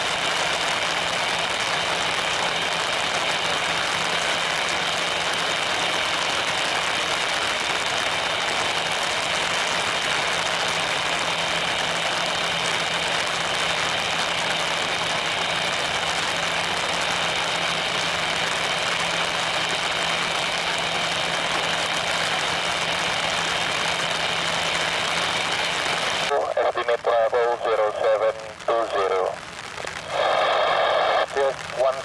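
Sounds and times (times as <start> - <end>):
jet engines idling: 0.0 - 32.0.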